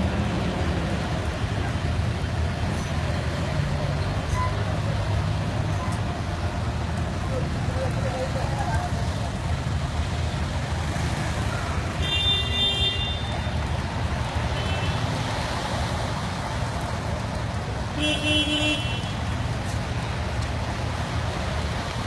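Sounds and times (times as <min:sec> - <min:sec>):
traffic moving through floodwater: 0:00.0 - 0:22.0.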